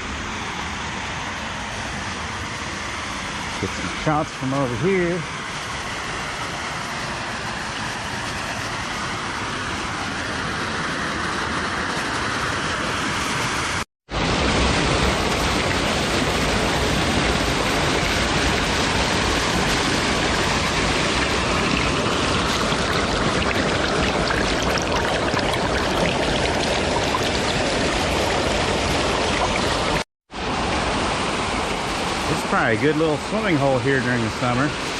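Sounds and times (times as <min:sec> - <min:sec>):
water pouring over waterfall: 0:00.8 - 0:34.9.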